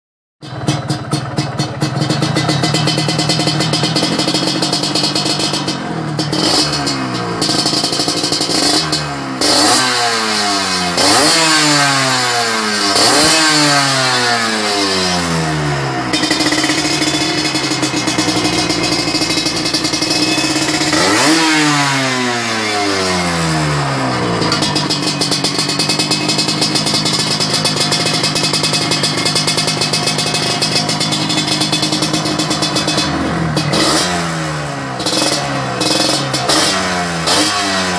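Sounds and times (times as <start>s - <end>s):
two-stroke motorcycle engine revving: 0.4s - 37.9s.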